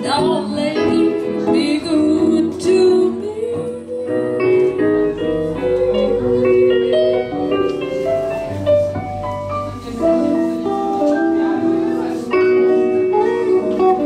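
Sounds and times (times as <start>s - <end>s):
jazz guitar: 0.0s - 14.0s
jazz on electric keyboard: 0.0s - 14.0s.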